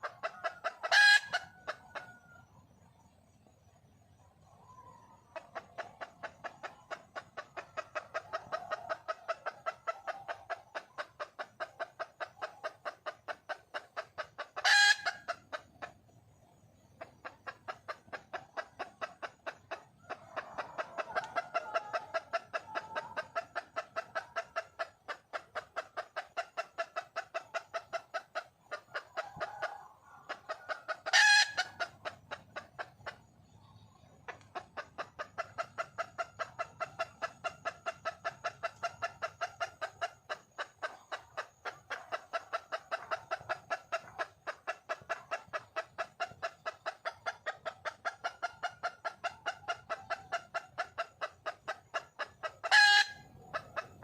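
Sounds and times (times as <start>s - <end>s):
junglefowl hen clucking: 0.0s - 54.0s.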